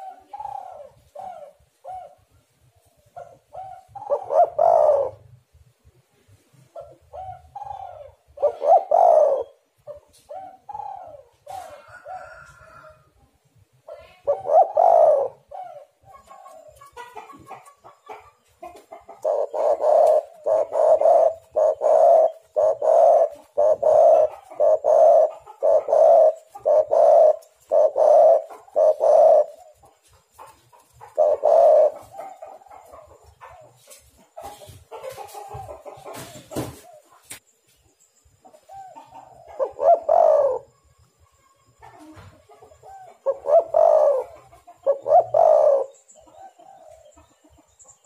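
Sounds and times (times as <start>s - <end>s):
dove cooing: 0.0s - 2.3s, 3.1s - 5.5s, 6.6s - 12.8s, 13.9s - 37.2s, 38.5s - 40.9s, 41.6s - 48.0s.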